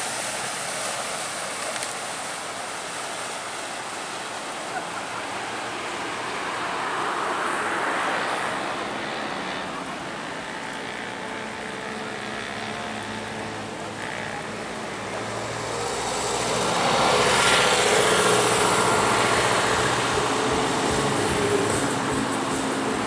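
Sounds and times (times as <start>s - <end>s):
rushing water noise: 0.0s - 23.0s
ship engine drone: 0.0s - 23.0s.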